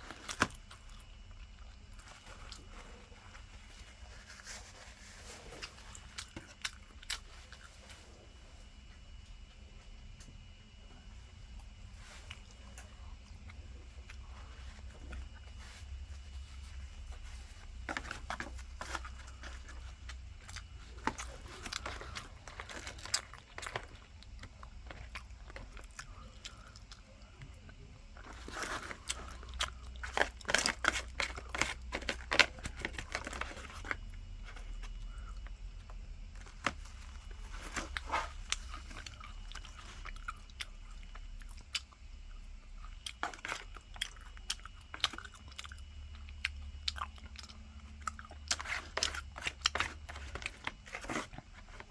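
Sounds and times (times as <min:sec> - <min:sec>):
chewing crispy food: 0:00.0 - 0:08.4, 0:11.3 - 0:51.9.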